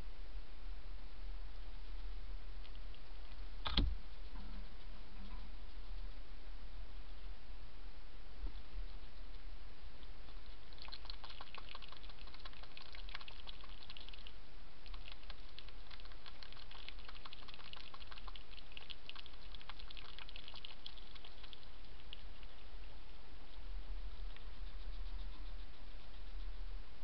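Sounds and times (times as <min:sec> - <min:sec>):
steady low hum: 0:00.0 - 0:27.0
hedgehog crunching dry food: 0:01.8 - 0:06.2, 0:08.6 - 0:22.9, 0:23.5 - 0:26.6.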